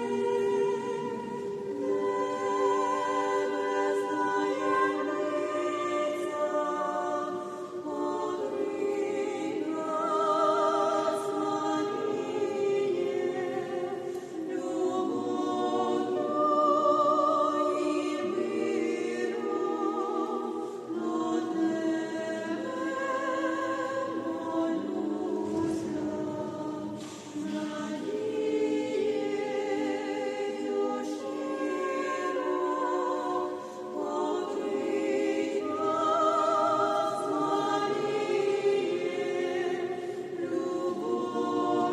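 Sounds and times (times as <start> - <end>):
church choir singing a hymn: 0.0 - 41.9.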